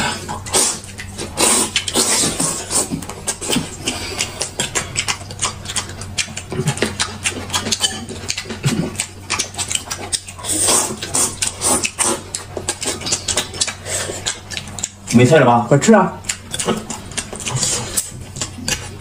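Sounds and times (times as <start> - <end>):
slurping: 0.0 - 19.0
wet chewing and lip-smacking: 0.0 - 19.0.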